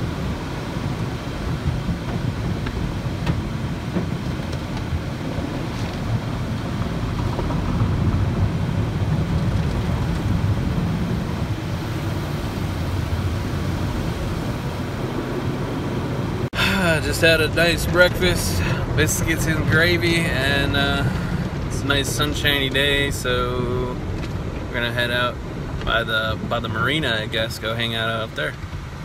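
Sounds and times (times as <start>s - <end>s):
low rumble: 0.0s - 28.8s
water jets spraying on car: 0.0s - 29.0s.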